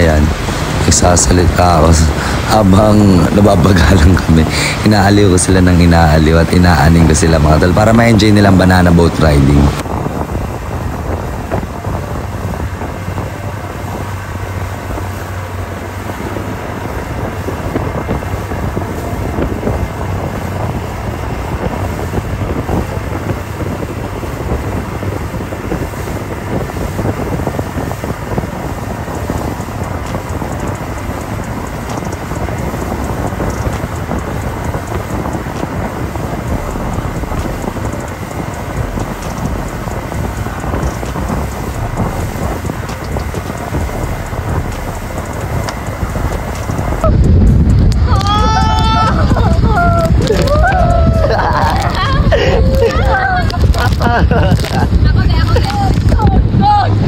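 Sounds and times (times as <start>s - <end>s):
boat engine hum: 0.0s - 57.0s
churning boat wake: 0.0s - 57.0s
wind rushing over microphone: 0.0s - 57.0s.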